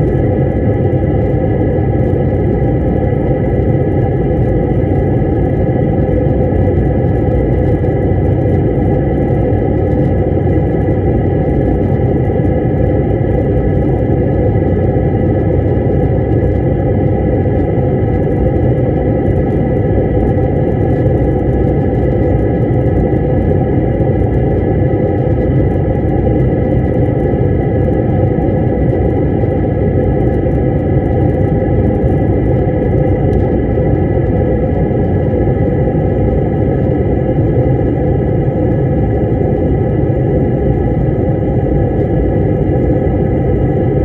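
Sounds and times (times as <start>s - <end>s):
jet engine and airflow rumble: 0.0s - 44.0s.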